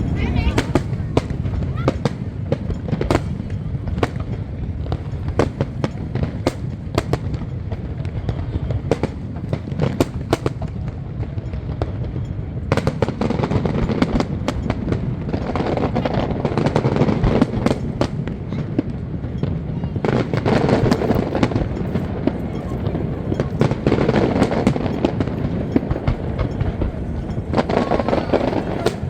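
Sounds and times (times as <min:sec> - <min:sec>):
fireworks bangs: 0:00.0 - 0:29.0
fireworks crackle: 0:00.0 - 0:29.0.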